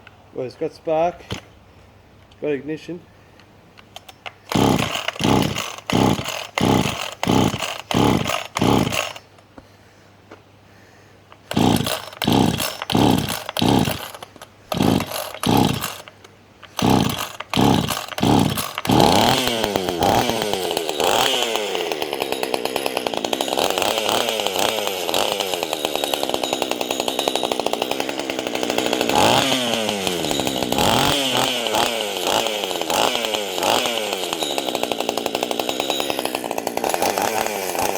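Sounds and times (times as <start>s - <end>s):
chainsaw engine pull-starting: 4.0s - 9.3s, 11.4s - 37.9s
chainsaw engine revving: 4.5s - 9.3s, 11.4s - 37.9s.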